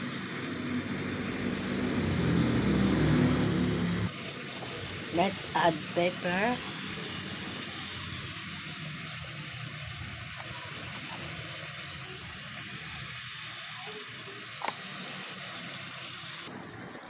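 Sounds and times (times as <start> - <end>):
sauce bubbling and sizzling: 0.0 - 17.0.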